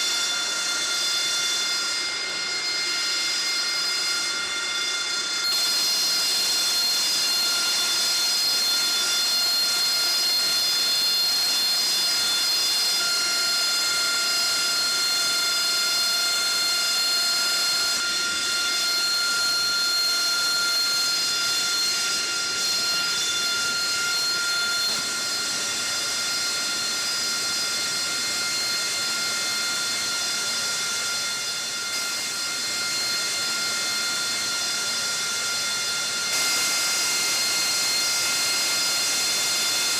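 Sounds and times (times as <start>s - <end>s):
high whining tones: 0.0s - 39.9s.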